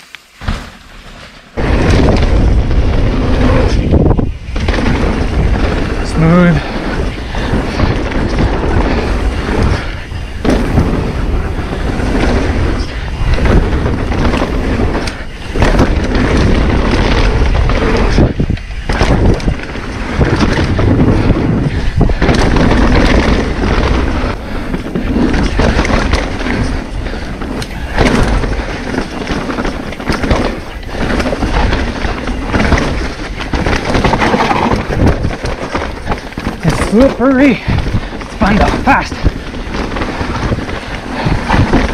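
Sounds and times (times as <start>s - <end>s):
mountain bike rattling on dirt trail: 0.0s - 41.9s
wind rushing over microphone: 1.6s - 41.9s.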